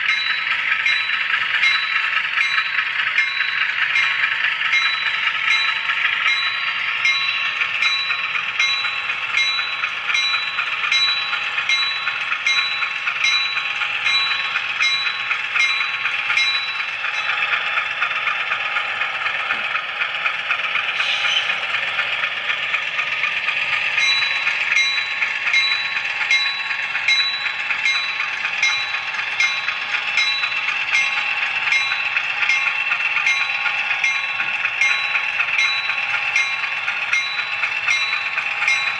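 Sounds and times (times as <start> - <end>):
model train rolling on track: 0.0 - 38.9
wheels clicking over rail joints: 0.0 - 38.9.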